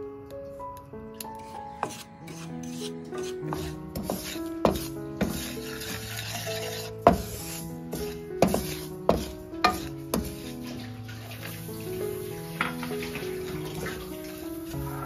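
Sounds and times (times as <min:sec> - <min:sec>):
background music: 0:00.0 - 0:15.0
spatula scraping semolina in wok: 0:01.3 - 0:15.0.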